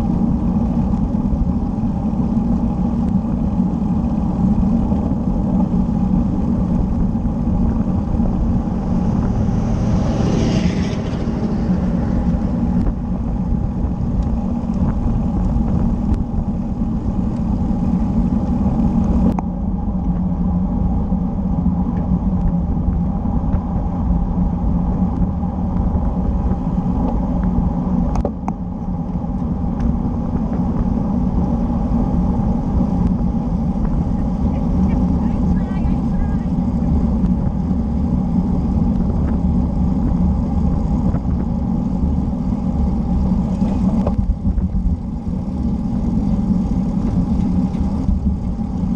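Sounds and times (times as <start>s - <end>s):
tyres on road: 0.0s - 48.9s
wind rumble: 0.0s - 48.9s.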